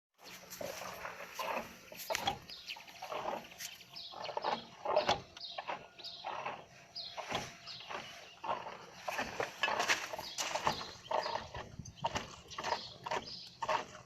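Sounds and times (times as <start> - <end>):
cooling system clicks and chirps: 0.2 - 14.0.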